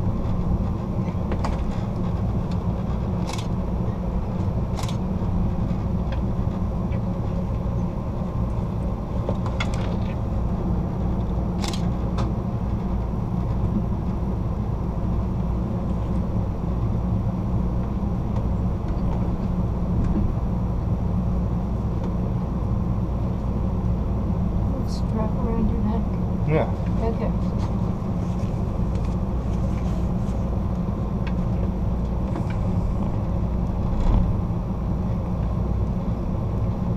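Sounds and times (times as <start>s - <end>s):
train wheels rumbling on rails: 0.0s - 36.9s.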